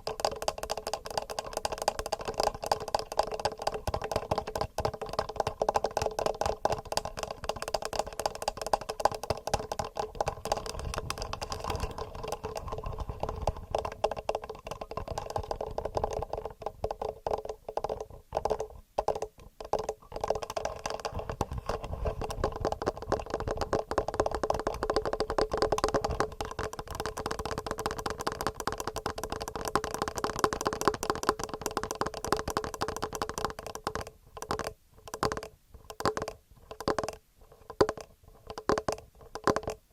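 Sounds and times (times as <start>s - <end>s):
fingernail tapping on microphones: 0.0s - 39.9s.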